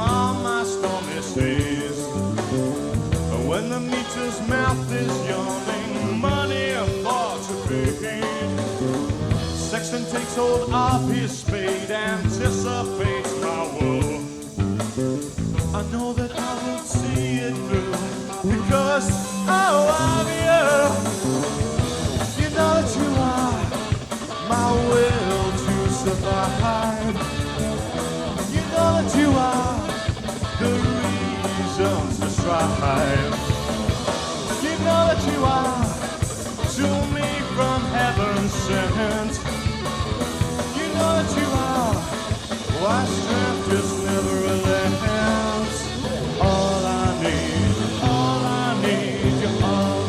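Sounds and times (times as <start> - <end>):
person singing: 0.0 - 50.0
rock band playing live: 0.0 - 50.0.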